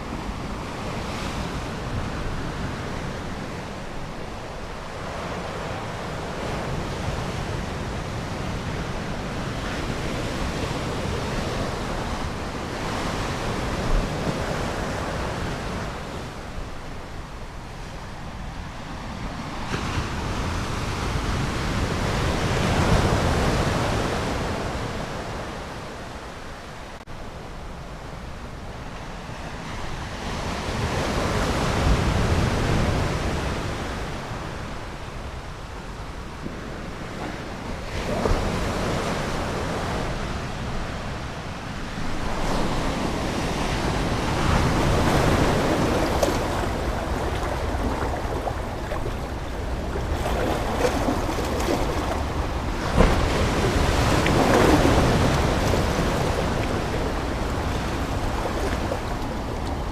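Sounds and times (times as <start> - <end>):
ocean waves breaking: 0.0 - 26.2, 30.6 - 59.9.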